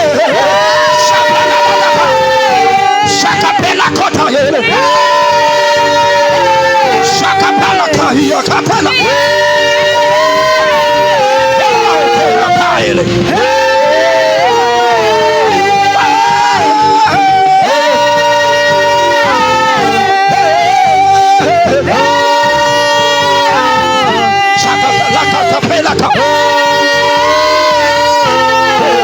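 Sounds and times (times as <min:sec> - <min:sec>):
person singing long sliding notes: 0:00.0 - 0:29.0
sustained musical accompaniment: 0:00.0 - 0:29.0.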